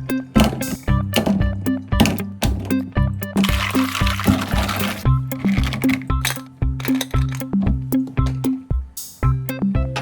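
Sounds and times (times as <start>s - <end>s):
upbeat music with bouncing bass: 0.0s - 10.0s.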